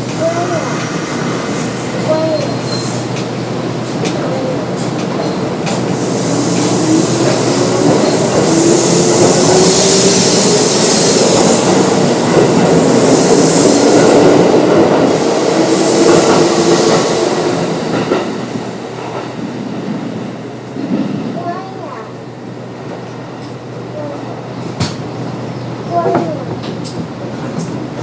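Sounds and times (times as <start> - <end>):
train wheel and rail noise: 0.0 - 28.0.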